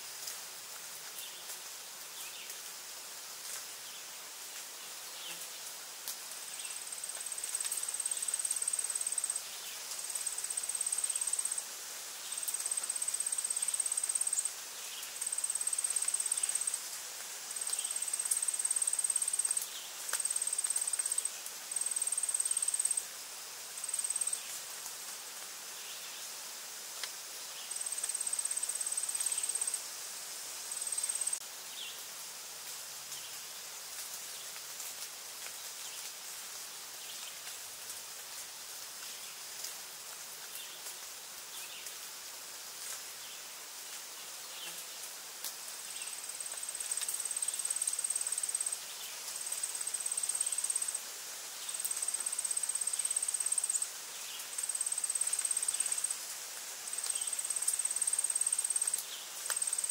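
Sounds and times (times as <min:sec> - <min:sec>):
outdoor ambient hiss: 0:00.0 - 0:59.9.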